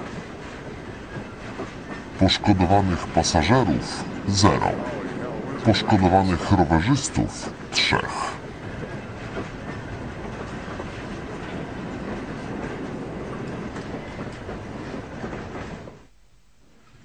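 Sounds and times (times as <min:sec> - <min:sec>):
train wheels rolling: 0:00.0 - 0:16.1.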